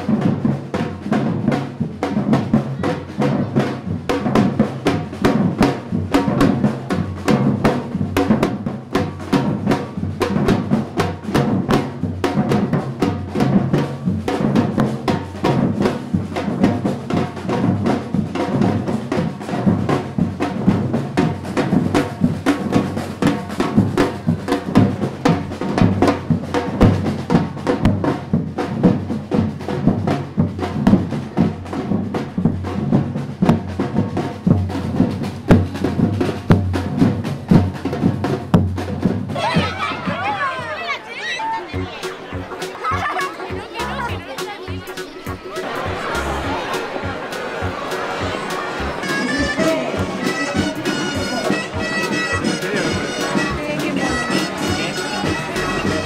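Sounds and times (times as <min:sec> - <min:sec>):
marching drums playing: 0:00.0 - 0:56.0.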